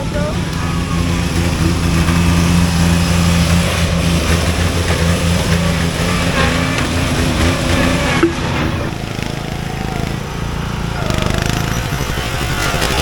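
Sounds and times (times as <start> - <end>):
riding lawn mower engine running: 0.0 - 13.0.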